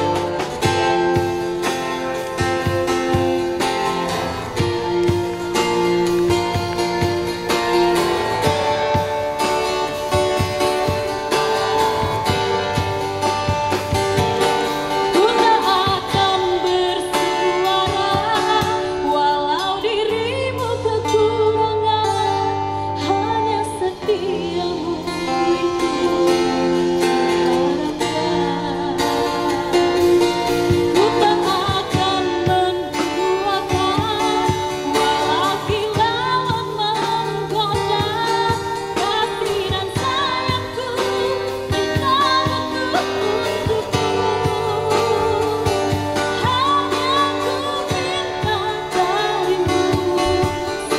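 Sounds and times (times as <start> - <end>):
live band playing: 0.0 - 50.9
woman singing into a microphone: 0.0 - 50.9.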